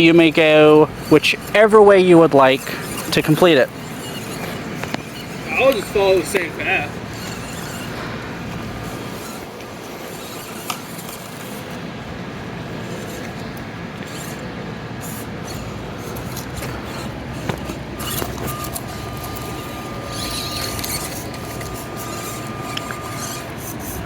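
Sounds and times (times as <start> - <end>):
small electric motor whirring: 0.0 - 24.0.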